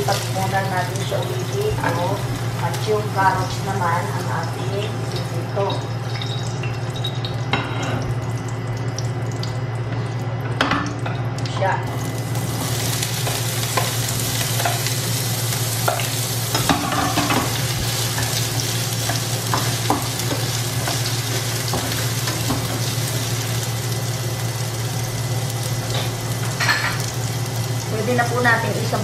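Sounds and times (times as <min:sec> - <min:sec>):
carrot slices sizzling in oil: 0:00.0 - 0:07.5, 0:11.5 - 0:29.0
low steady hum: 0:00.0 - 0:29.0.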